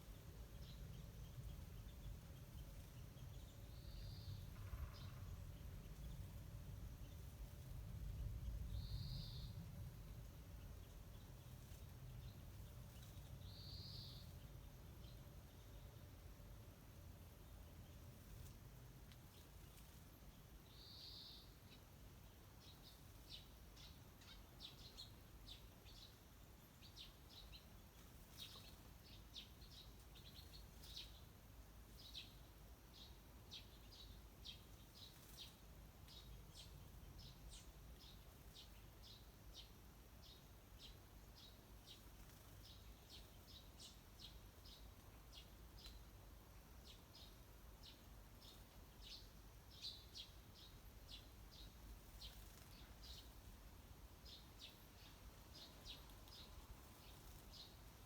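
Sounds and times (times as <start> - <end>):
birds chirping faintly: 0.0 - 58.0.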